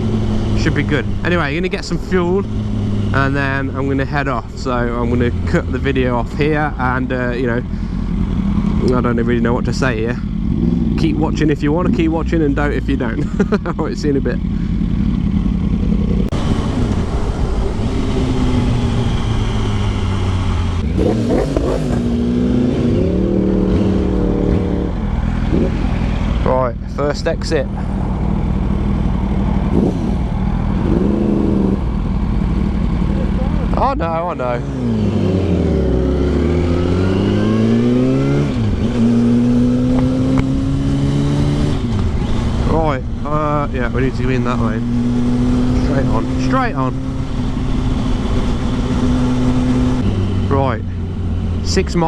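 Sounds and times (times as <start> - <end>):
low wind rush: 0.0 - 52.0
motorcycle engine running: 0.0 - 52.0.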